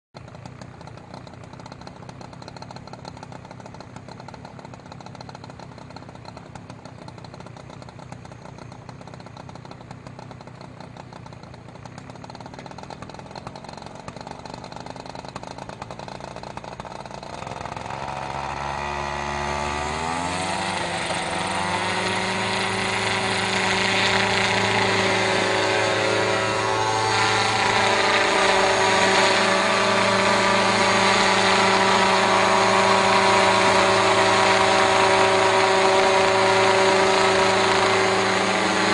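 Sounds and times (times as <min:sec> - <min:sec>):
helicopter engine revving: 0:00.2 - 0:38.9.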